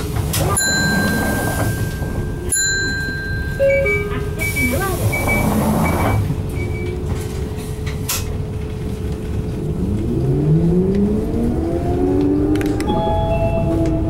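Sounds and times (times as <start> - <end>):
bus diesel engine accelerating: 0.0 - 14.0.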